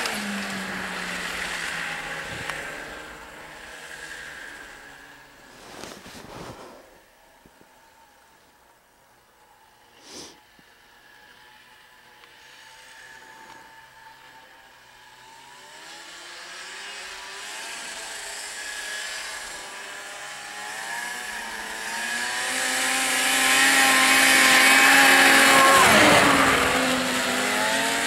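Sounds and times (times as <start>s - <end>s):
snowmobile engine approaching: 0.0s - 28.0s.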